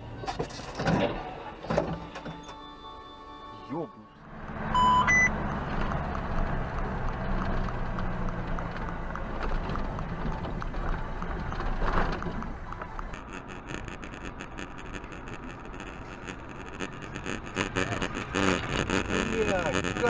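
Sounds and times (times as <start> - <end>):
vehicle road rumble: 0.0 - 2.8, 3.6 - 20.0.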